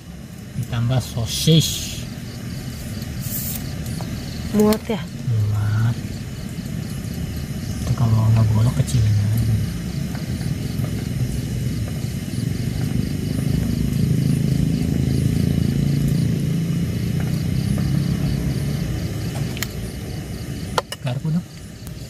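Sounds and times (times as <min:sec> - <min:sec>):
gas stove burner hissing: 0:00.0 - 0:22.0.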